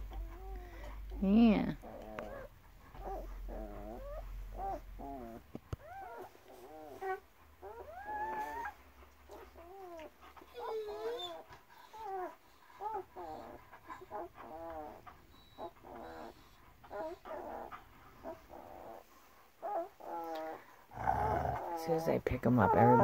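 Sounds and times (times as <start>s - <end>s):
dog whining: 0.0s - 23.0s
dogs whimpering and squeaking: 0.0s - 23.0s.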